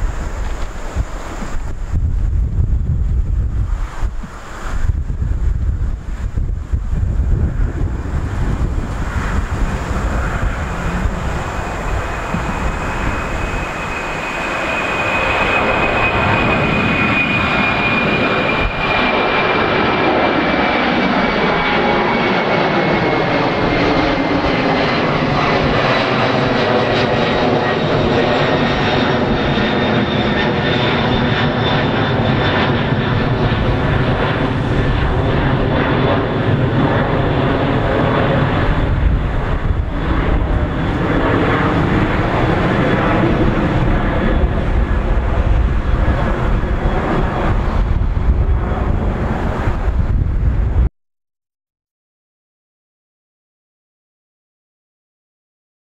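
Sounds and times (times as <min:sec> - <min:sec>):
jet engines roaring with high whine: 0:00.0 - 0:50.9.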